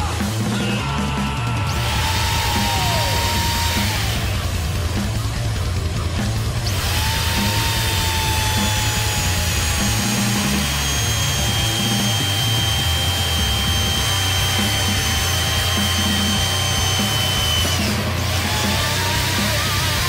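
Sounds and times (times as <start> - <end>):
electric drill boring into wood: 0.0 - 20.0
heavy metal music: 0.0 - 20.0.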